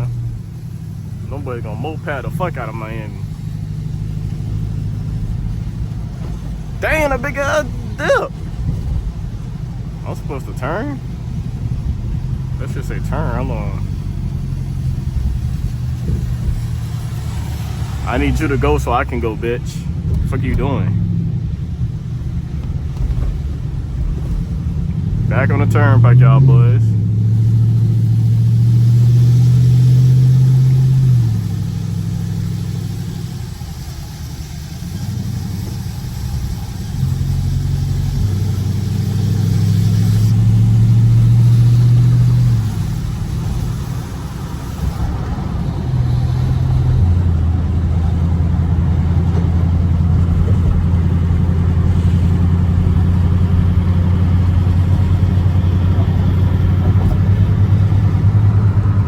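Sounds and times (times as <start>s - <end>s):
car engine cruising drone: 0.0s - 59.0s.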